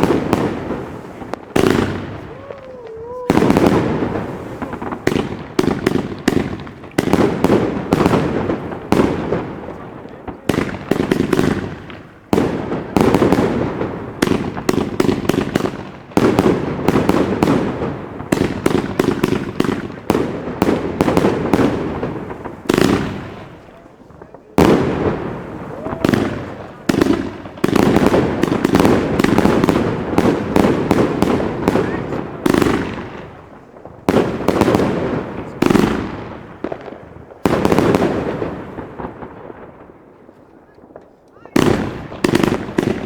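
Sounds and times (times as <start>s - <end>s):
fireworks launching and bursting: 0.0s - 43.0s.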